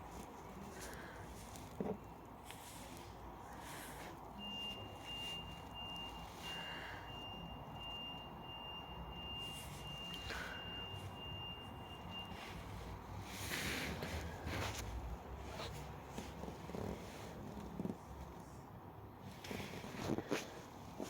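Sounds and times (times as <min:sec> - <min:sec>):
soft rustles: 0:00.0 - 0:21.0.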